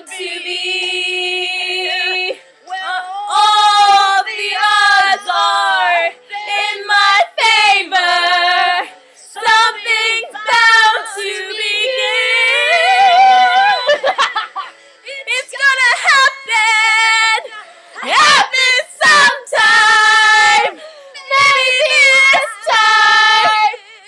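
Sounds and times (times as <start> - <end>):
girls singing show tune: 0.0 - 24.0.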